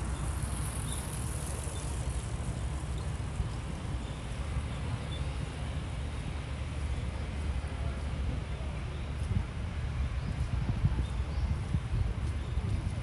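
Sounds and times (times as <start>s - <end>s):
city street rumble: 0.0s - 13.0s.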